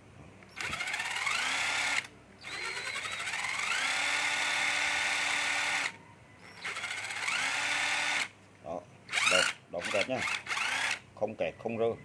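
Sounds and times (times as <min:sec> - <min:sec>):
cordless drill motor whining: 0:00.6 - 0:08.3, 0:09.1 - 0:11.0.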